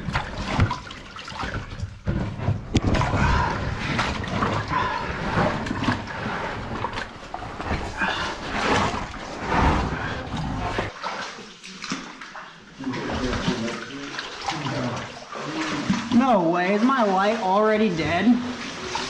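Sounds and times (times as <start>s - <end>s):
water sloshing and splashing: 0.0s - 19.0s.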